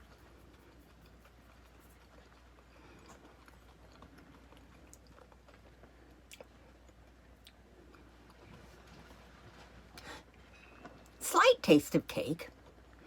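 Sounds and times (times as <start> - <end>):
faint chewing: 0.0 - 11.2.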